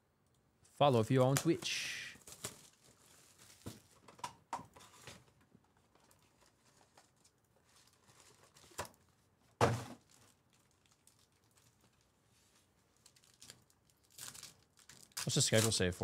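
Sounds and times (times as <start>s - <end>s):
plastic wrap crinkling: 0.9s - 4.2s, 4.9s - 9.3s, 10.0s - 16.0s.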